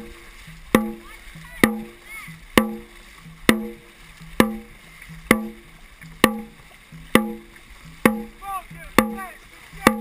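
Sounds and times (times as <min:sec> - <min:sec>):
drum beating: 0:00.0 - 0:10.0
water rushing along hull: 0:00.0 - 0:10.0.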